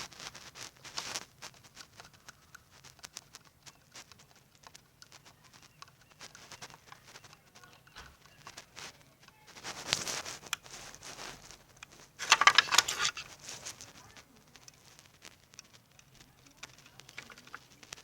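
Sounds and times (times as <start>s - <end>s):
plastic clattering: 0.0s - 18.0s
plastic parts clicking and scraping: 0.0s - 18.0s.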